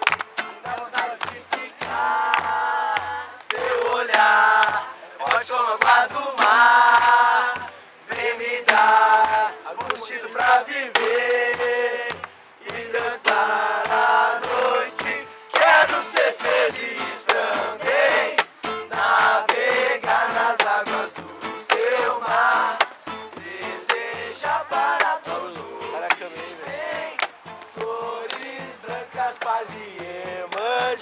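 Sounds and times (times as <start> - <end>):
group chanting in unison: 0.0 - 31.0.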